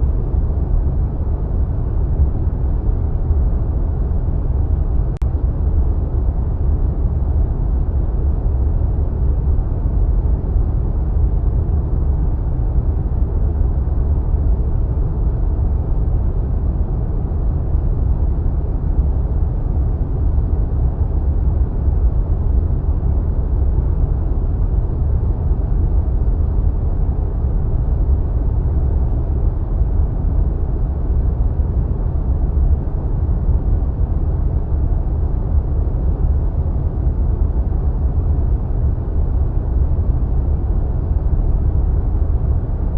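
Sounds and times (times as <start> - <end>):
deep rushing wind: 0.0 - 42.9.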